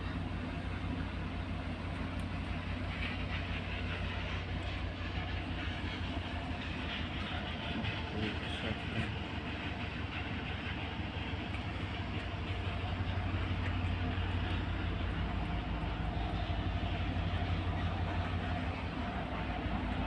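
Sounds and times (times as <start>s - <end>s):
ship engines droning: 0.0s - 20.0s.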